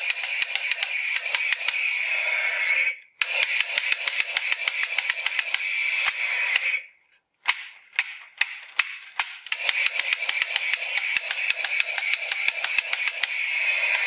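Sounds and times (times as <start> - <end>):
toy gun rapid clicks: 0.0 - 1.9, 3.2 - 6.8, 7.4 - 14.0.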